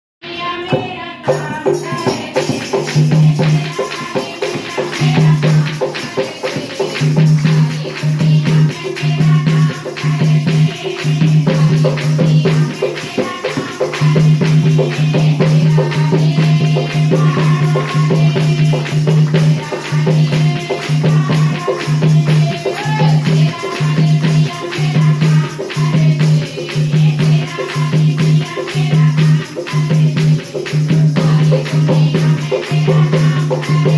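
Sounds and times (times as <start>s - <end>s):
shaker-like percussion: 0.3s - 33.9s.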